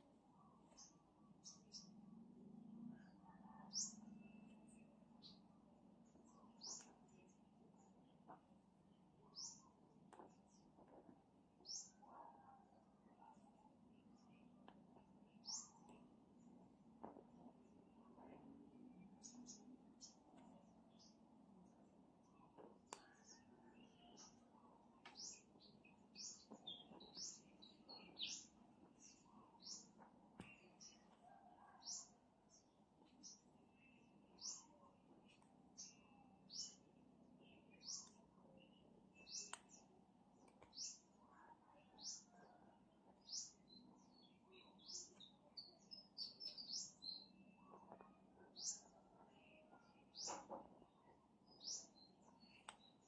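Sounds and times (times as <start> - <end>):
faint bird chirping: 0.0 - 53.0.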